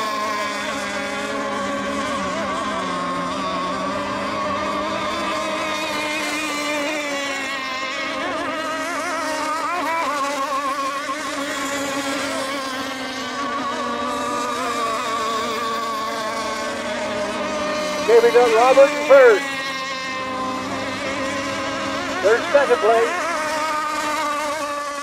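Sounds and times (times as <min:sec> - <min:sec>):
radio-controlled boat engines buzzing: 0:00.0 - 0:25.0.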